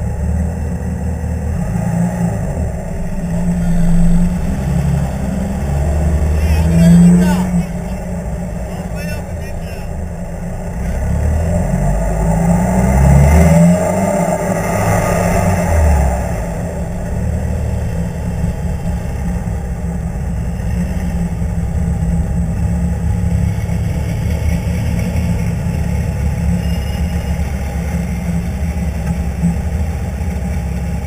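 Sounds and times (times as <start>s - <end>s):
car engine idling low rumble: 0.0s - 31.0s.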